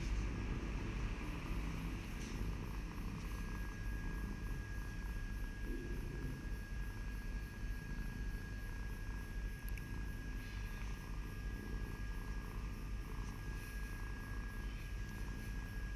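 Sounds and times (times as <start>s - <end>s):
cat purring: 0.0s - 15.9s.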